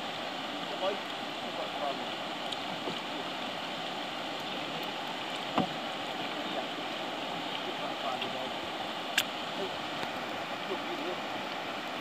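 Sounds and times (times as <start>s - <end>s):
rocky river rushing: 0.0s - 12.0s.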